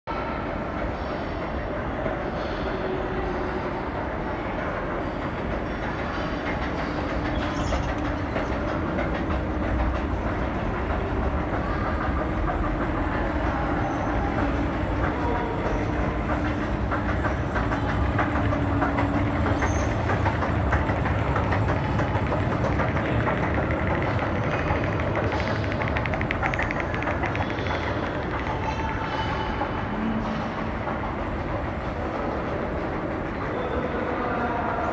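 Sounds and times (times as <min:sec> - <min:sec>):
escalator mechanical hum: 0:00.1 - 0:34.9.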